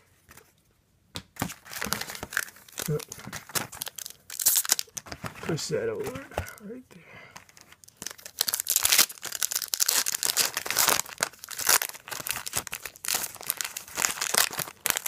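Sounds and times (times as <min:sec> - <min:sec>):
card pack wrappers tearing and crinkling: 0:01.4 - 0:06.7, 0:07.4 - 0:15.0.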